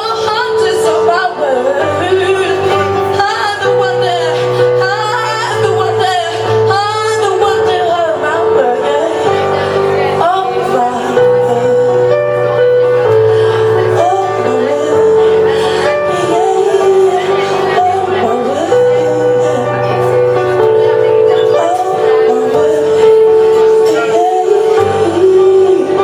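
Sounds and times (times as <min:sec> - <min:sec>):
person singing: 0:00.0 - 0:26.0.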